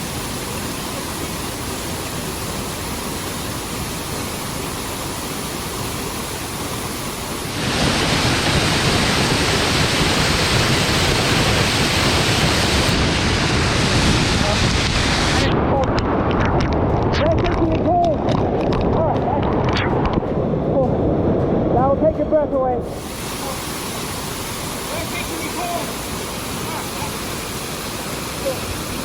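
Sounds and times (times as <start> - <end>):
waterfall rushing: 0.0 - 20.1, 22.8 - 29.0.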